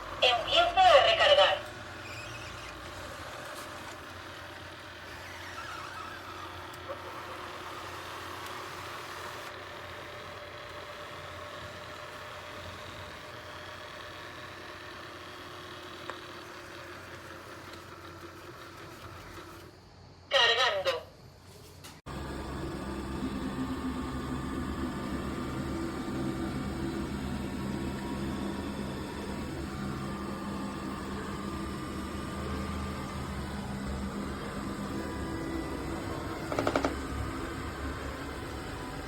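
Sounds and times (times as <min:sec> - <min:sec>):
robot vacuum running: 0:00.0 - 0:20.6, 0:22.1 - 0:39.0.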